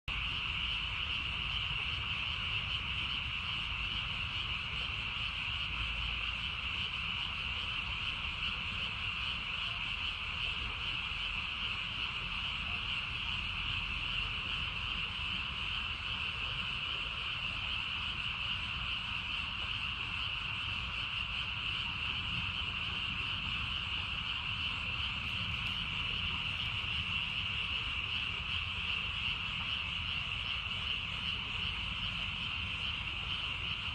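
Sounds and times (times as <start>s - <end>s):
tree frogs trilling: 0.1s - 33.9s.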